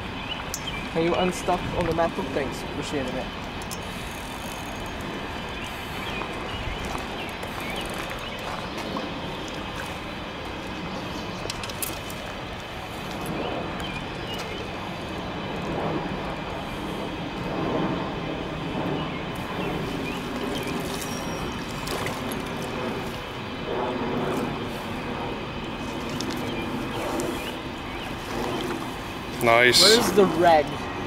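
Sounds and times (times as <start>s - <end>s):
distant engines rumbling: 0.0s - 31.0s.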